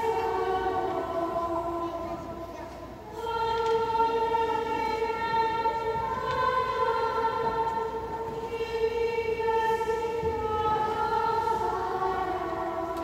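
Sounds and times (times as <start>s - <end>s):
choir singing plainchant: 0.0s - 13.0s.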